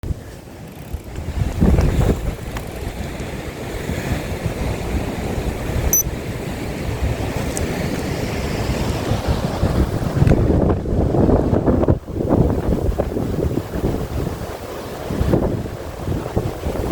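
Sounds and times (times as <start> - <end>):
gusty wind buffeting microphone: 0.0 - 16.9.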